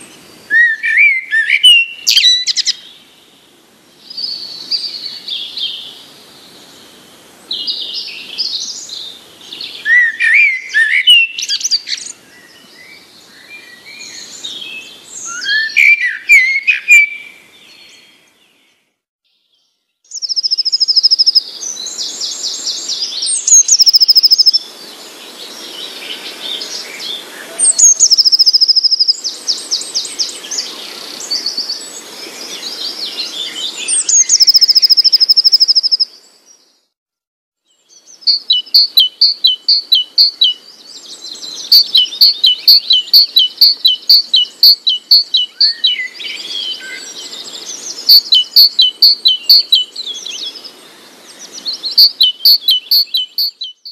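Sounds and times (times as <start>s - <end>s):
songbird singing: 0.0s - 37.0s, 37.6s - 53.9s.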